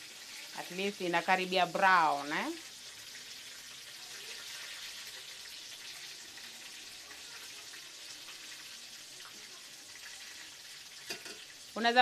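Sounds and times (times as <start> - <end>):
food frying in hot oil: 0.0 - 12.0.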